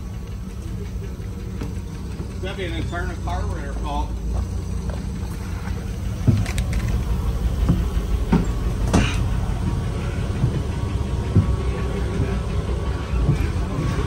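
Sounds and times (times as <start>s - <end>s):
bus engine idling: 0.0s - 14.0s
knocks and thumps inside bus: 0.0s - 14.0s.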